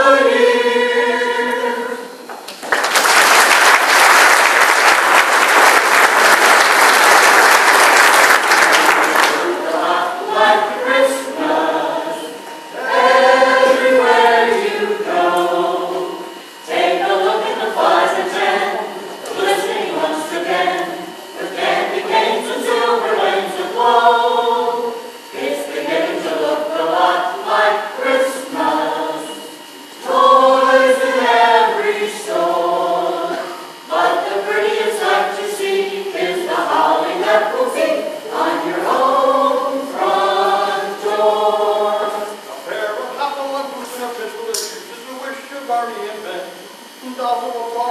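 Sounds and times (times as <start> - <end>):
group singing a carol a cappella: 0.0 - 2.3, 3.6 - 45.4.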